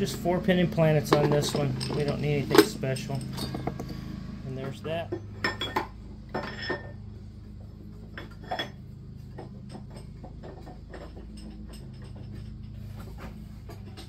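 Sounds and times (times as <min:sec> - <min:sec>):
steady low hum: 0:00.0 - 0:14.0
steel shaft clinking against metal: 0:00.1 - 0:07.1, 0:08.0 - 0:14.0.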